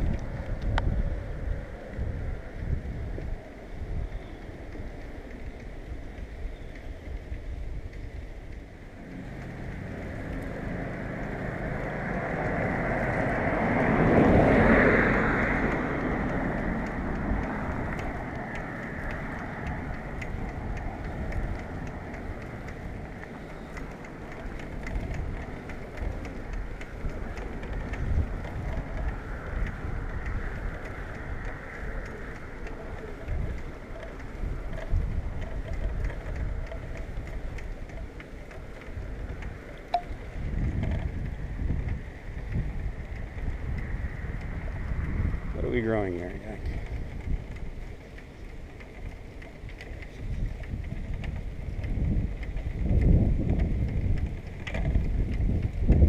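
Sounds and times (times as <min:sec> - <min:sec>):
bike clicks and rattles: 0:00.0 - 0:56.0
wind buffeting microphone: 0:00.0 - 0:56.0.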